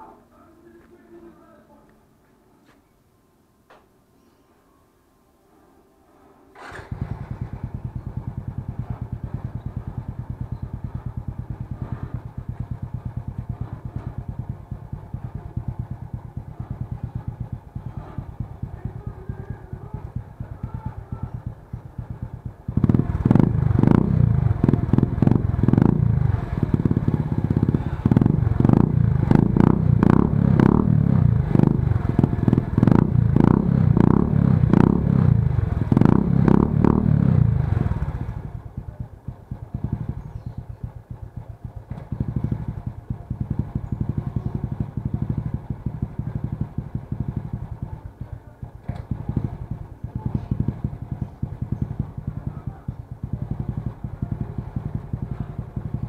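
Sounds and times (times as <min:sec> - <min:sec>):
motorcycle engine revving: 0:06.6 - 0:56.0.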